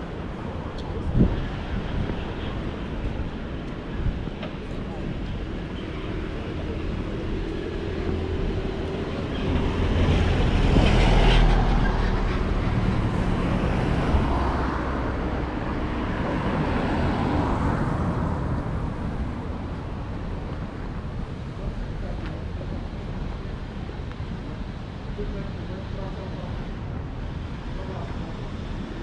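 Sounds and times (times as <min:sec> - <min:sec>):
low rumble of passing cars: 0:00.0 - 0:29.0.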